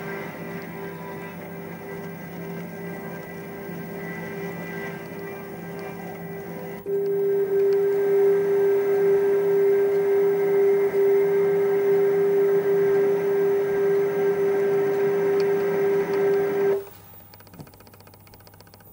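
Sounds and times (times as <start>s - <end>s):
sawmill machinery humming: 0.0s - 17.6s.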